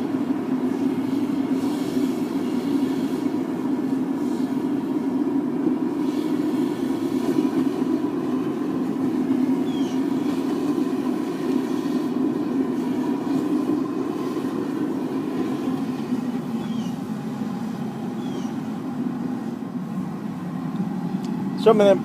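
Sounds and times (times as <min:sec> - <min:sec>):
propane burner rushing: 0:00.0 - 0:22.0.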